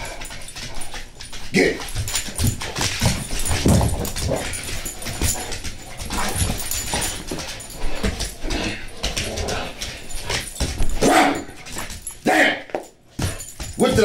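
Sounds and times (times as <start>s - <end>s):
paws thumping on hardwood floor: 0.0s - 14.0s.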